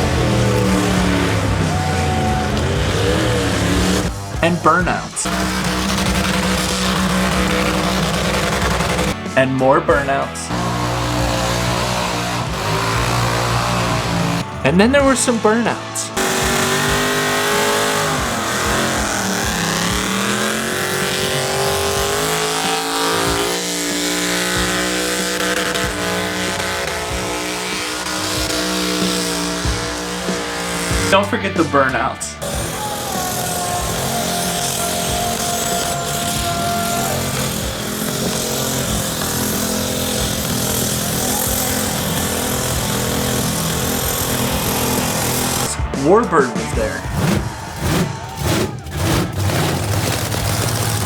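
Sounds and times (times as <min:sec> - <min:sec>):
car engine at high revs: 0:00.0 - 0:51.0
spinning tyres hissing: 0:00.0 - 0:51.0
tire noise: 0:00.0 - 0:51.0.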